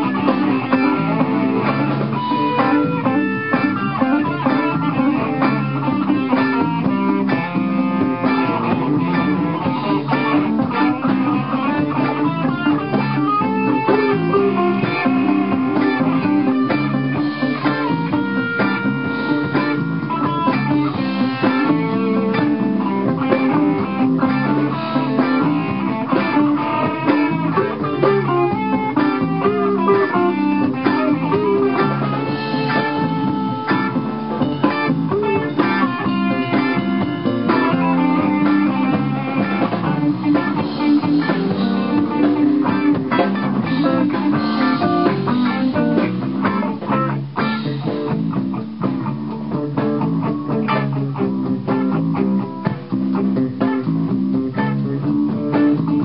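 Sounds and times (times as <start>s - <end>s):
drums: 0.0s - 56.0s
electric guitars playing boogie: 0.0s - 56.0s.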